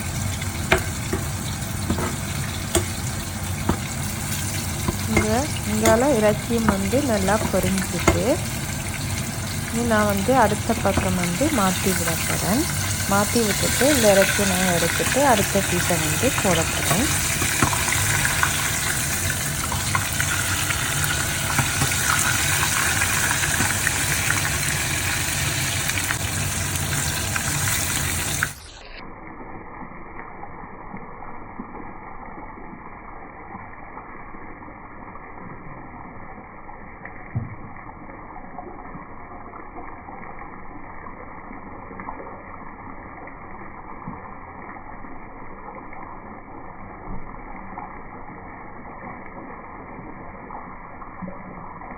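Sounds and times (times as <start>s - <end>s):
chicken sizzling in hot oil: 0.0s - 28.6s, 29.2s - 51.9s.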